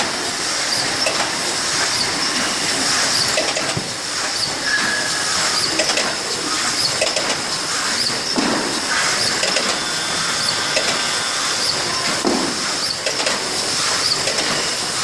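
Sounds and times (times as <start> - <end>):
die cutting machine running: 0.0 - 15.0.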